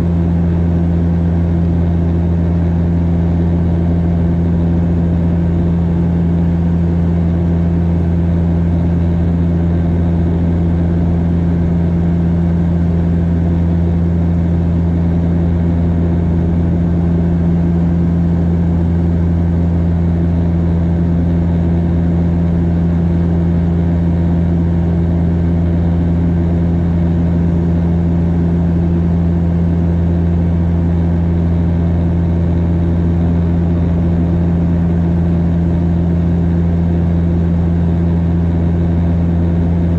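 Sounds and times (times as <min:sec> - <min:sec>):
propeller engine drone in cabin: 0:00.0 - 0:39.9.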